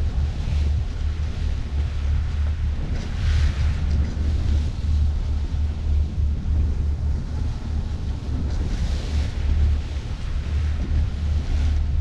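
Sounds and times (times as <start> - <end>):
rushing sea water: 0.0 - 12.0
wind buffeting microphone: 0.0 - 12.0.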